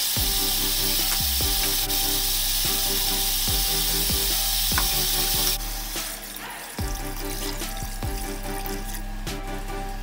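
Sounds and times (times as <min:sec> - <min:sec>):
meat sizzling in a pot: 0:00.0 - 0:09.1
background music with a beat: 0:00.0 - 0:10.0.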